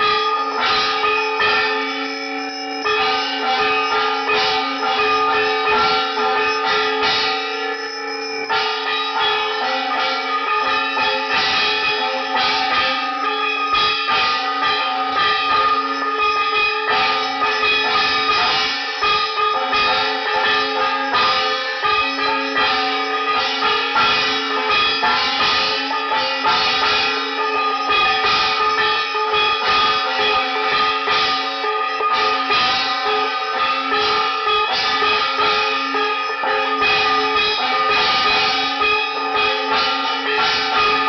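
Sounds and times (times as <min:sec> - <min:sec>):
brass bells ringing rapidly: 0:00.0 - 0:41.0.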